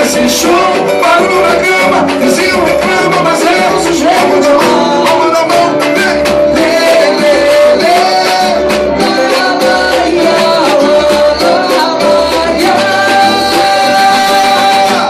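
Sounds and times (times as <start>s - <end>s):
band playing latin music: 0.0s - 15.0s
person singing long notes: 0.0s - 15.0s.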